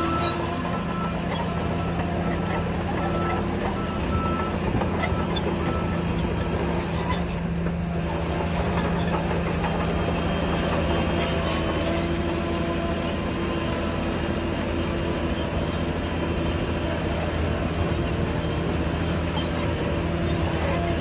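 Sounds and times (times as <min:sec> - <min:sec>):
bulldozer diesel engine under load: 0:00.0 - 0:21.0
steel tracks clattering and squealing: 0:00.0 - 0:21.0.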